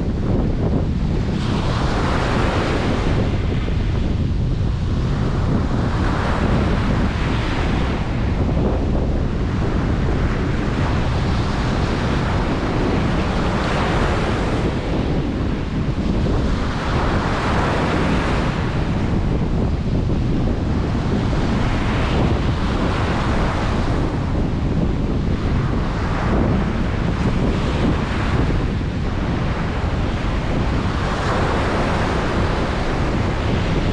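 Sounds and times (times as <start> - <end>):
surf breaking on a beach: 0.0 - 33.9
wind buffeting microphone: 0.0 - 33.9.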